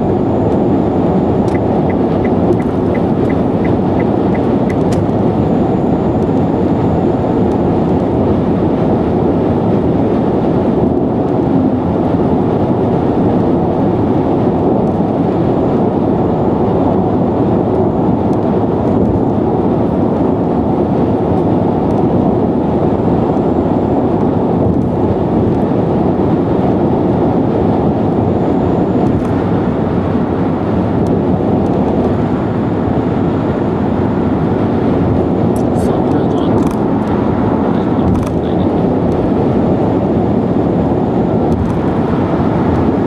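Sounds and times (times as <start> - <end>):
tyre and wind rush: 6.6 - 43.0.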